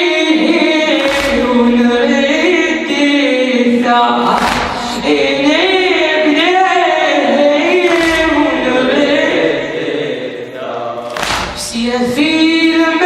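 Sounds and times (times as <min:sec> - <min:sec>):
unaccompanied voices singing a lament: 0:00.0 - 0:13.0.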